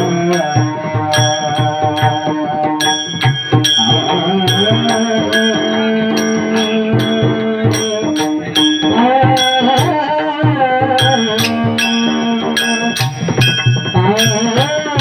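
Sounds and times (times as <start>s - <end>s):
hand cymbals: 0.0s - 15.0s
low drum beats: 0.0s - 15.0s
person singing wavering melody: 0.0s - 15.0s.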